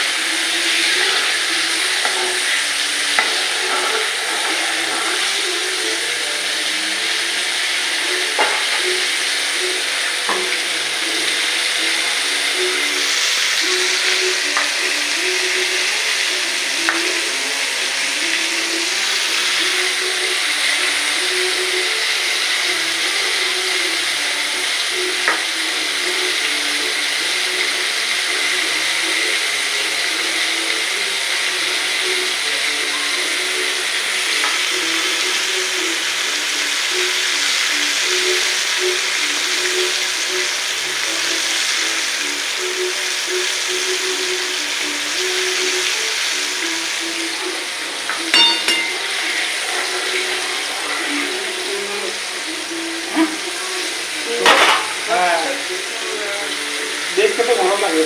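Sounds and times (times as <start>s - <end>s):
chicken deep-frying in oil: 0.0s - 58.0s.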